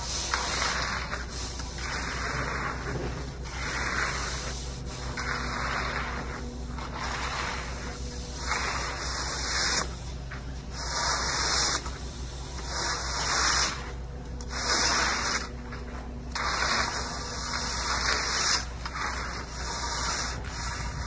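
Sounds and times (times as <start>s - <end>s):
screed bar scraping wet concrete: 0.0s - 21.0s
steady low hum: 0.0s - 21.0s.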